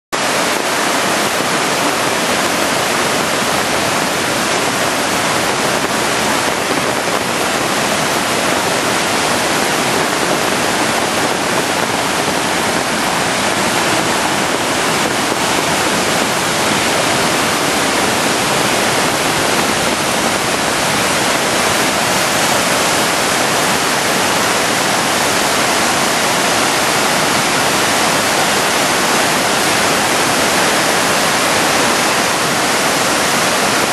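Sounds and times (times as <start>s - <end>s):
river roaring in flood: 0.2s - 33.9s.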